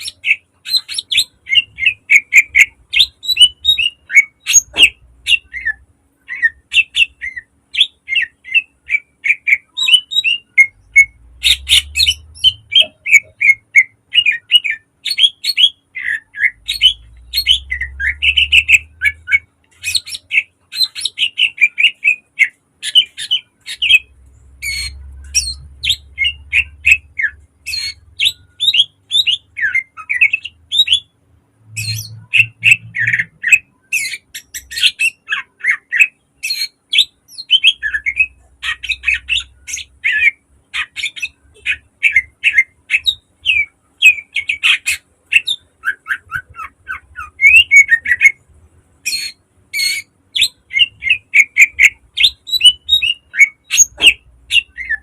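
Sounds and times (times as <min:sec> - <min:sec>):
bird singing sharp chirps: 0:00.0 - 0:31.1, 0:31.7 - 0:48.4.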